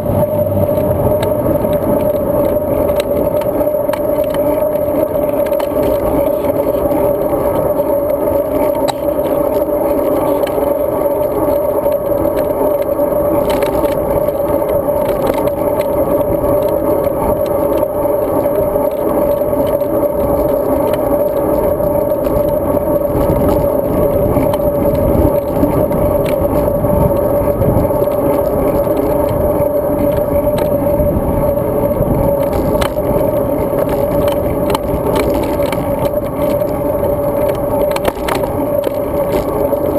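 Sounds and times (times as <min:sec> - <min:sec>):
bicycle riding hum: 0:00.0 - 0:39.9
faint ticks and rattles: 0:00.0 - 0:39.9
tyre and wind rumble: 0:00.0 - 0:39.9.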